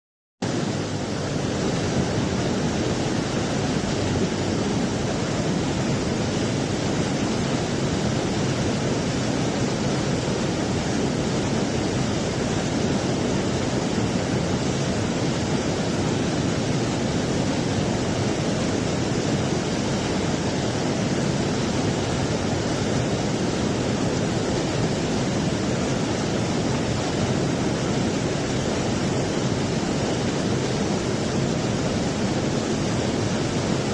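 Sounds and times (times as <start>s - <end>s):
rushing water: 0.4s - 33.9s.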